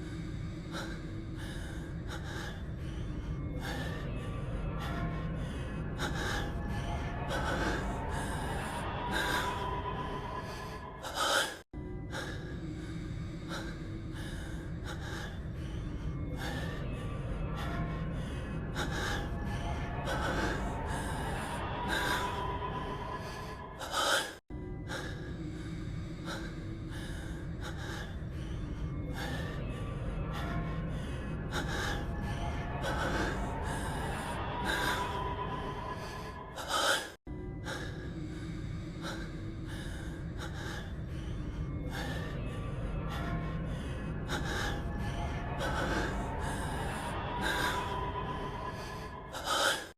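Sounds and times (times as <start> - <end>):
quiet background music: 0.0 - 49.9.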